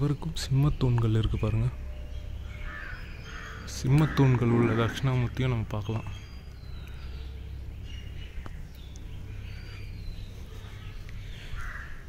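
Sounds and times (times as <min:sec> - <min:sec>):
faint bird chirps: 0:00.0 - 0:12.0
low outdoor rumble: 0:00.0 - 0:12.0.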